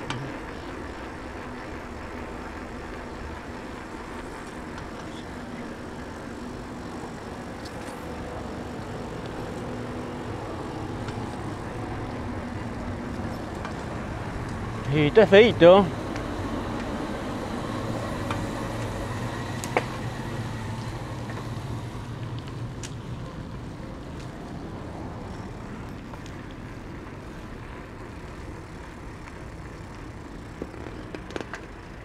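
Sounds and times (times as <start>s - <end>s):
road traffic noise: 0.0s - 32.0s
vehicle engine hum: 0.0s - 32.0s.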